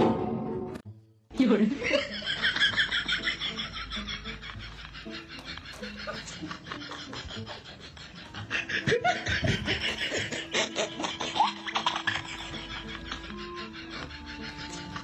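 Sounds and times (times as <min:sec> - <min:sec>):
people laughing: 0:01.6 - 0:15.0.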